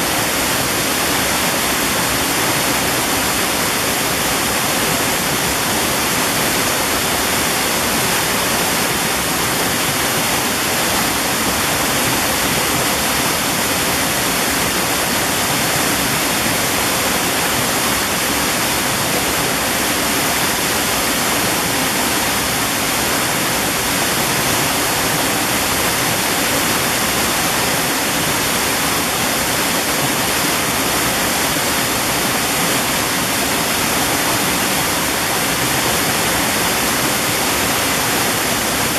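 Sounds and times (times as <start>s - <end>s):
stream rushing water: 0.0s - 38.9s.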